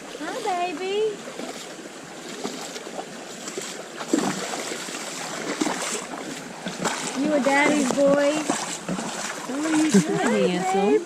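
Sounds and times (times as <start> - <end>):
creek water running: 0.0 - 11.0
water splashes: 0.0 - 11.0.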